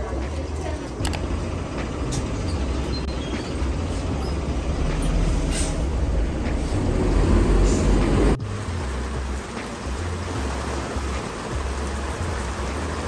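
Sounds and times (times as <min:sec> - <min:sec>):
road vehicle rumbling: 0:00.0 - 0:13.0.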